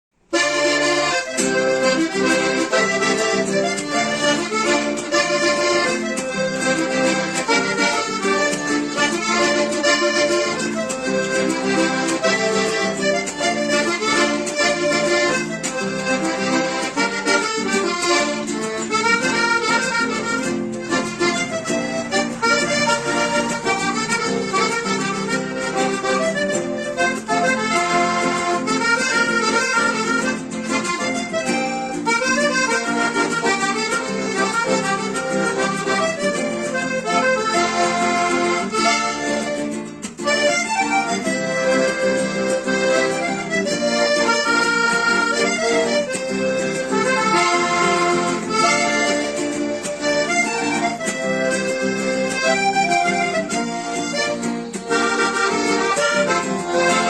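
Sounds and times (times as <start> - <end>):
accordion playing cumbia: 0.1 - 57.0.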